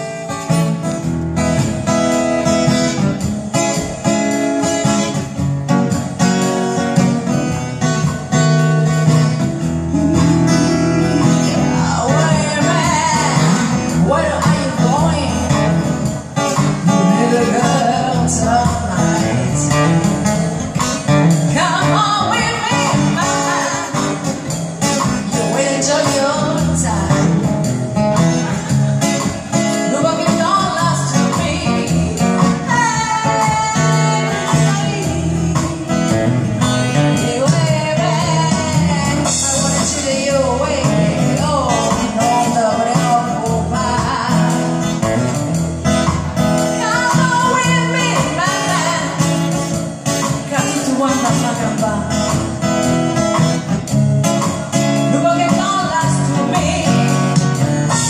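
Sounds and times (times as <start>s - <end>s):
acoustic guitar: 0.0s - 58.0s
woman singing into a microphone: 8.3s - 45.3s, 45.9s - 52.8s, 54.3s - 58.0s.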